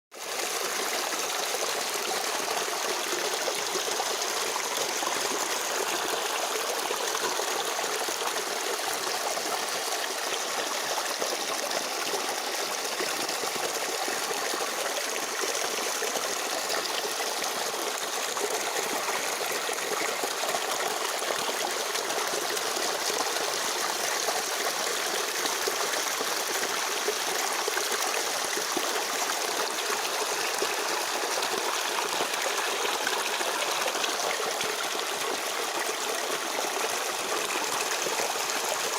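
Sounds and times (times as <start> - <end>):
stream trickling over rocks: 0.2 - 38.9.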